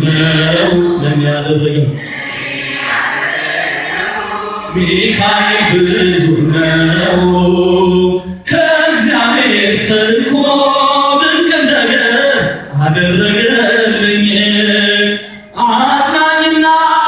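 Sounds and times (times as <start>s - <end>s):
choir chanting a hymn: 0.0s - 17.0s.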